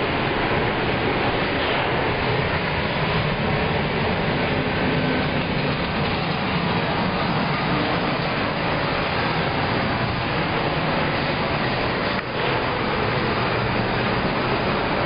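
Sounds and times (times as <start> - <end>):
ventilation air rushing: 0.0 - 15.0.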